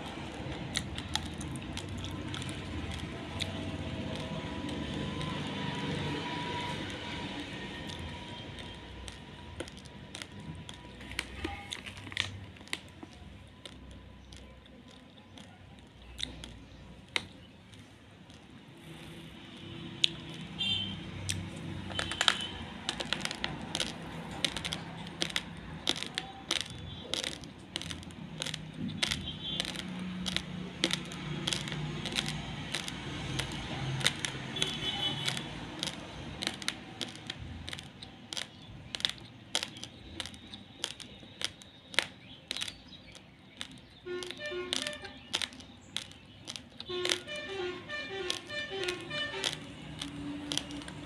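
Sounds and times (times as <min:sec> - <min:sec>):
chewing: 0:00.0 - 0:20.6, 0:21.3 - 0:51.0
rice grains crunching: 0:00.0 - 0:51.0.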